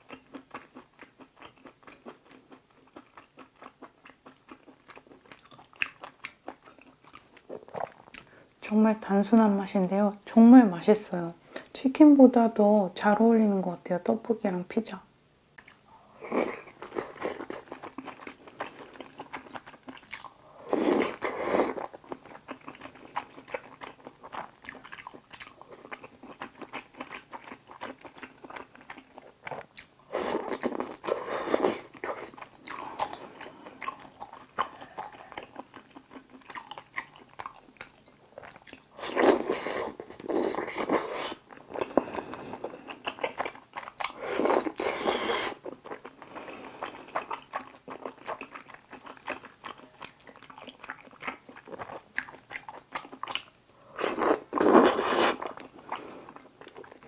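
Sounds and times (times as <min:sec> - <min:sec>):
close chewing and biting: 0:00.0 - 0:08.4, 0:15.6 - 0:57.0.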